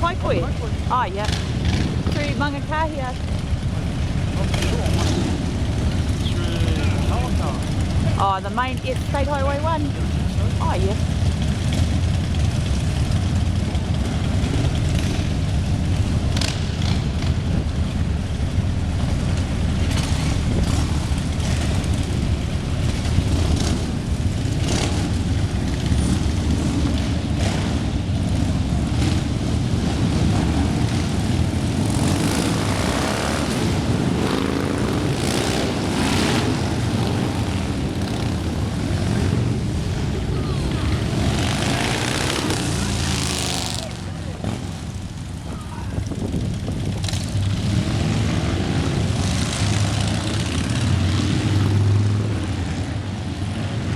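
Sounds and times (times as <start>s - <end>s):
motorcycles riding past: 0.0s - 53.9s.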